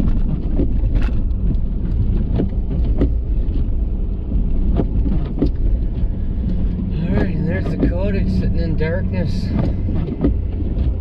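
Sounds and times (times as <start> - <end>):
pickup truck engine rumble: 0.0 - 11.0.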